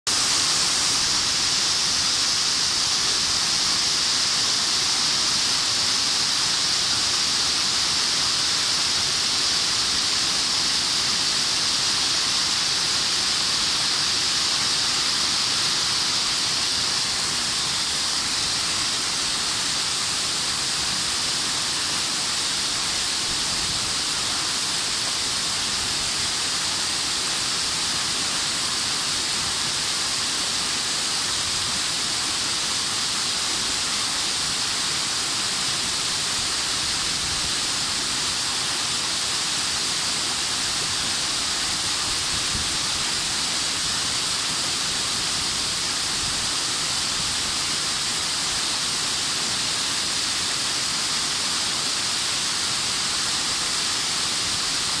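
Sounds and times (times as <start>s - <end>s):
waterfall rushing onto boulders: 0.1s - 55.0s.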